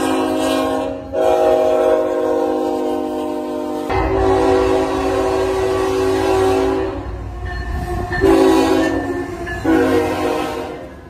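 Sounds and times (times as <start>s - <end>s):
locomotive air horn blasts: 0.0s - 7.3s, 8.2s - 11.0s
train engine running: 0.0s - 11.0s.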